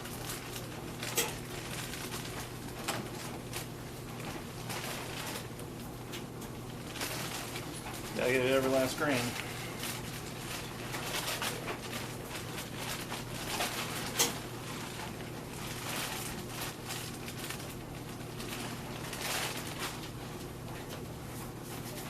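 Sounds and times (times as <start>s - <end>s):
grain crunching in hand mill: 0.0s - 22.0s
steady low hum: 0.0s - 22.0s.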